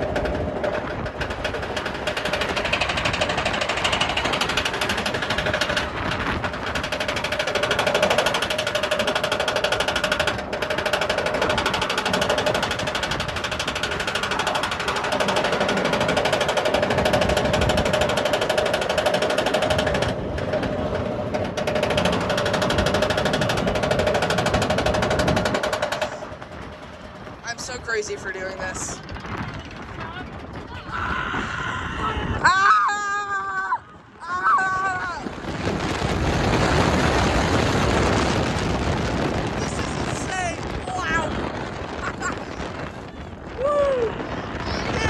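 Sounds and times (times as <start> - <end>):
lift chain rattle and hum: 0.0 - 45.0
roller coaster ratchet clatter: 0.0 - 45.0.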